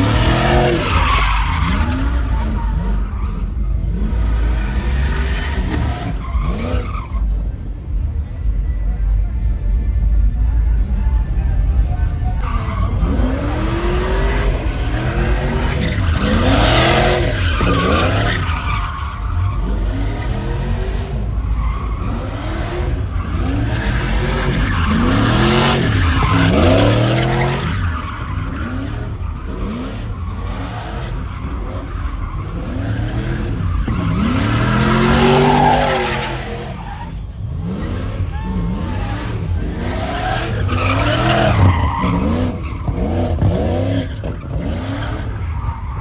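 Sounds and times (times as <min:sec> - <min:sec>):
tyres squealing: 0:00.0 - 0:07.3, 0:12.4 - 0:46.0
truck engine revving: 0:00.0 - 0:09.4, 0:10.3 - 0:46.0.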